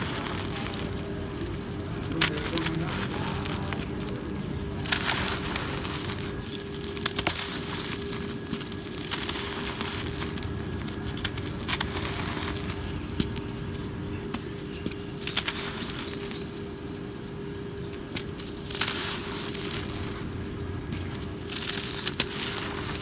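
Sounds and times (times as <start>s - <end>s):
dry cement crumbling in hands: 0.0s - 16.8s, 17.7s - 23.0s
powder pouring and pattering: 0.0s - 23.0s
sharp little cracks: 0.0s - 23.0s.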